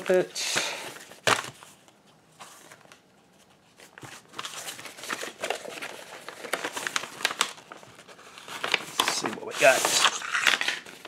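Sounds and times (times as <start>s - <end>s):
paper envelope rustling: 0.0s - 11.0s.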